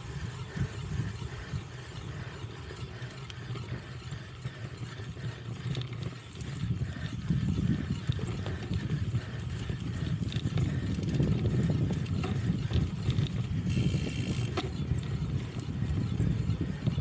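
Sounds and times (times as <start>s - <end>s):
bike rattling: 0.0s - 17.0s
faint ticking from bike: 0.0s - 17.0s
wind: 0.0s - 17.0s.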